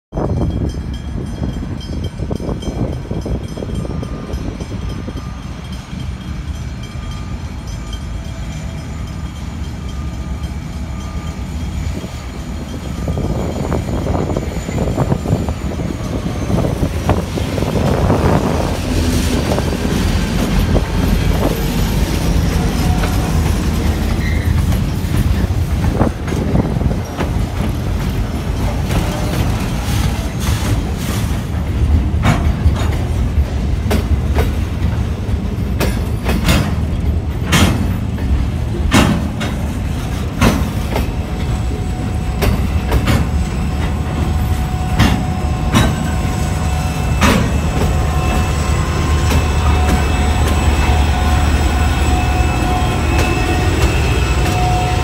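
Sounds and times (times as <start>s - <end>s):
diesel locomotive engine rumble: 0.1s - 55.0s.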